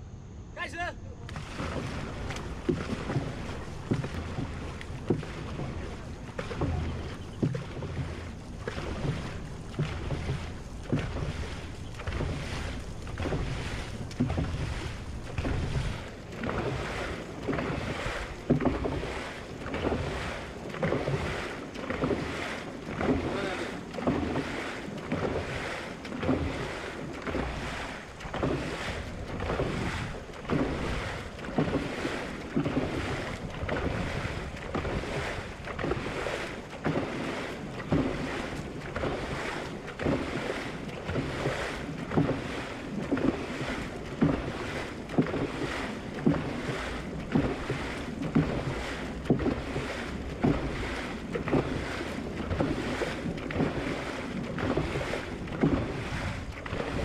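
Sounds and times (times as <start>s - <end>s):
water rushing along hull: 0.0s - 57.0s
paddles splashing in water: 0.6s - 57.0s
wind buffeting microphone: 1.2s - 57.0s.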